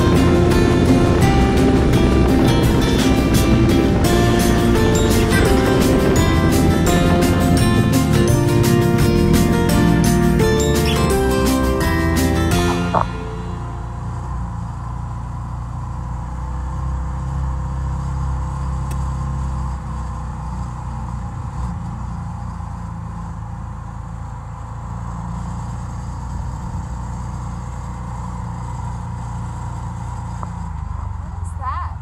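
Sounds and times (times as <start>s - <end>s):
car engine rumble: 0.0s - 32.0s
road noise: 0.0s - 32.0s.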